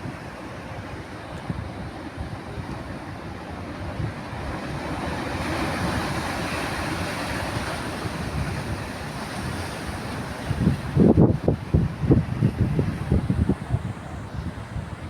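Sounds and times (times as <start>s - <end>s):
ocean surf rushing: 0.0s - 15.0s
wind buffeting microphone: 0.0s - 15.0s.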